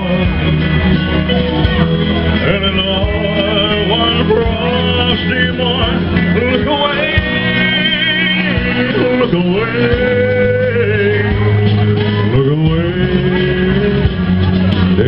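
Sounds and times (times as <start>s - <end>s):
amplified music: 0.0s - 15.0s
steady bass: 0.0s - 15.0s
person singing with vibrato: 2.3s - 14.4s.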